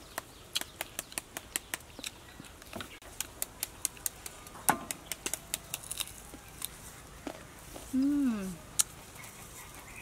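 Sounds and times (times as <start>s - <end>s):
crunchy mango chewing: 0.0s - 10.0s.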